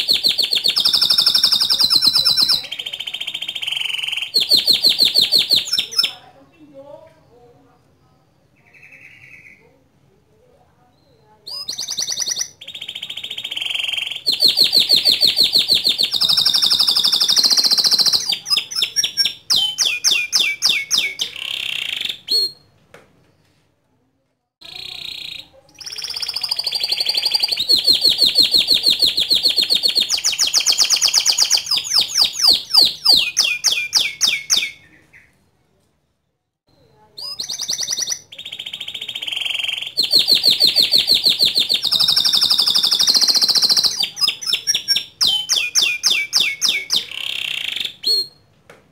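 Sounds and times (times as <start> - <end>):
canary singing trills: 0.0 - 9.9, 10.8 - 22.7, 24.6 - 35.7, 36.7 - 48.5.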